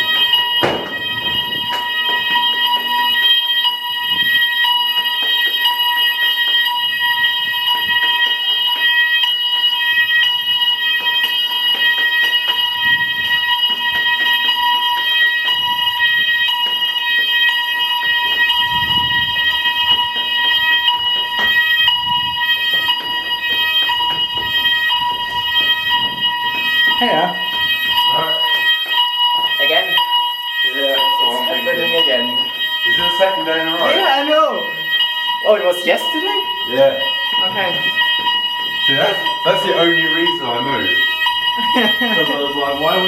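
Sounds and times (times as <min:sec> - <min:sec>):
fire alarm high-pitched tone: 0:00.0 - 0:43.0.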